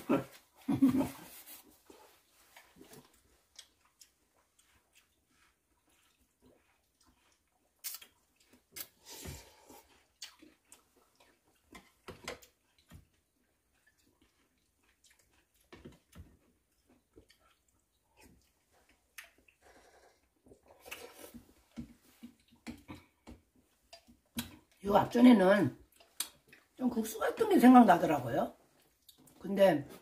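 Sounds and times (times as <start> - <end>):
slurping and chewing: 0.1 - 24.8, 25.8 - 26.8.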